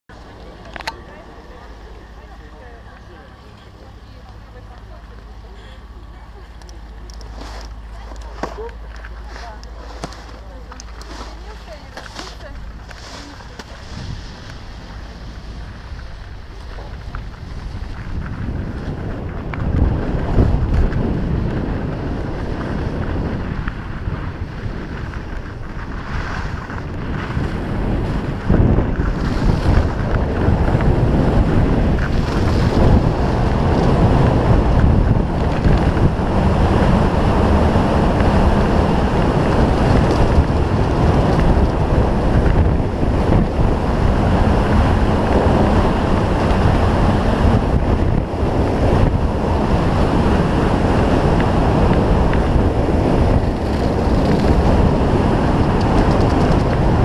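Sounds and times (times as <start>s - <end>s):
wind buffeting microphone: 0.1s - 57.0s
skis scraping on snow: 7.2s - 57.0s.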